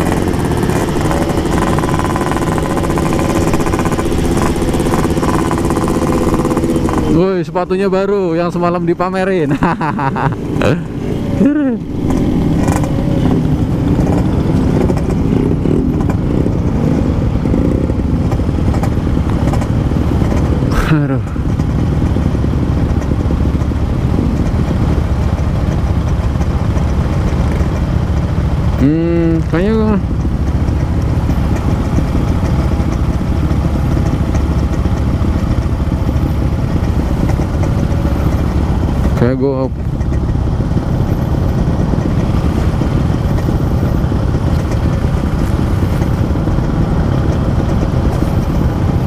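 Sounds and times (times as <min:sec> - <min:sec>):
two-stroke motorcycle engine: 0:00.0 - 0:49.0.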